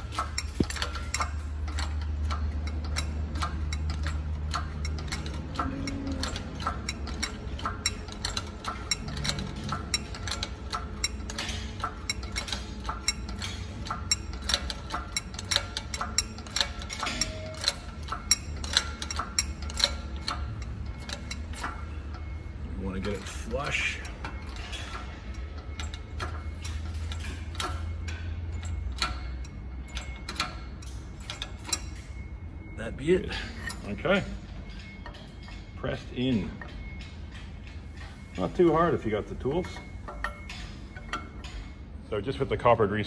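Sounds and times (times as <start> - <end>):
shop press clicking and ticking: 0.0 - 43.0.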